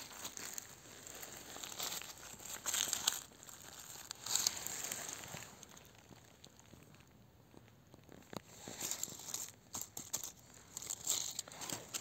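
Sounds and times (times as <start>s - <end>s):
dry leaves rustling and crunching: 0.0s - 7.0s, 8.3s - 12.0s.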